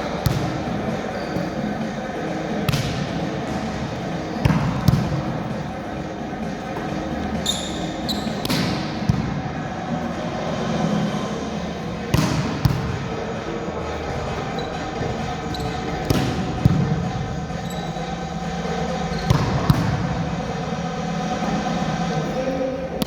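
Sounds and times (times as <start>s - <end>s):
sports hall background noise: 0.0s - 23.0s.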